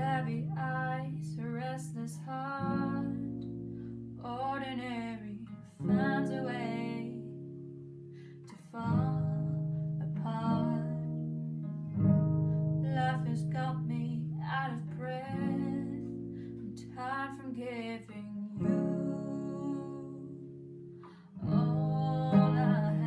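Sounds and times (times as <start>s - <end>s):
young woman singing a ballad: 0.0s - 7.5s, 8.4s - 11.6s, 12.6s - 23.0s
acoustic guitar chords: 0.0s - 23.0s.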